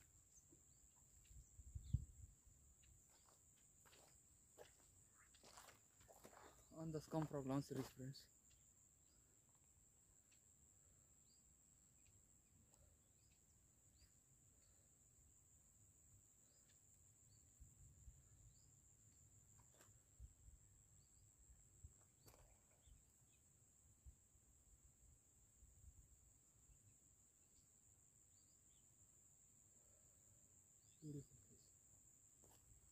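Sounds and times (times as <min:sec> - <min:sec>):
insect drone: 0:00.0 - 0:32.9.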